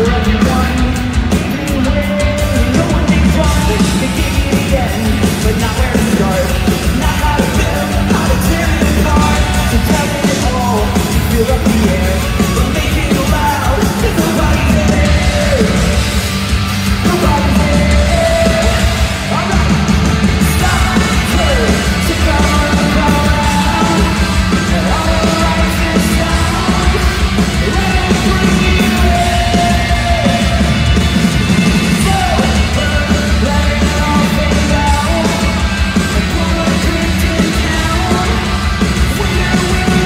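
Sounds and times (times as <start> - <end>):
live pop-punk band playing: 0.0 - 40.0
person singing: 0.0 - 40.0.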